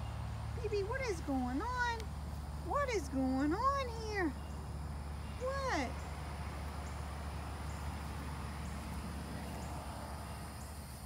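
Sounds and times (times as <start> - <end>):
faint high insect chirp: 0.0 - 11.0.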